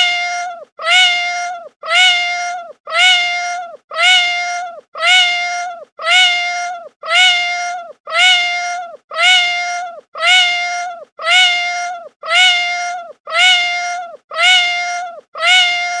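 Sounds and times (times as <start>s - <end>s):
cat meowing: 0.0s - 16.0s.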